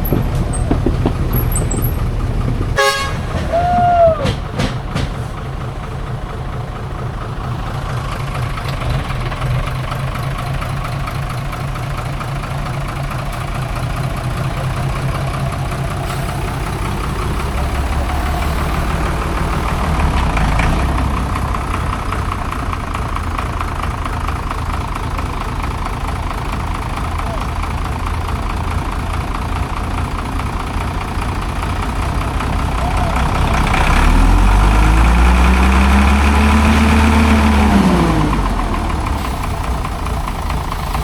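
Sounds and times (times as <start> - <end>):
heavy truck engine running: 0.0 - 41.0.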